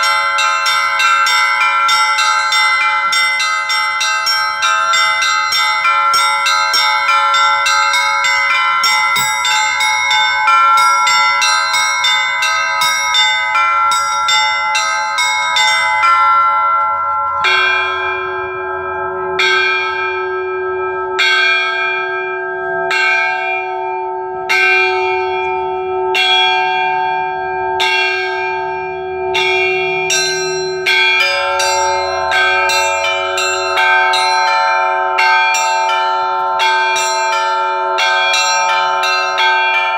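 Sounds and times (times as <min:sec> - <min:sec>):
deep bell strikes: 0:00.0 - 0:39.9
small church bells ringing quickly: 0:00.0 - 0:39.9.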